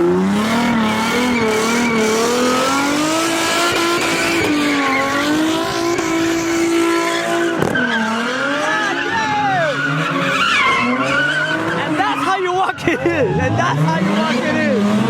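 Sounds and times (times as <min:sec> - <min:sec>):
car engine revving high: 0:00.0 - 0:15.0
tyres screeching: 0:01.1 - 0:15.0.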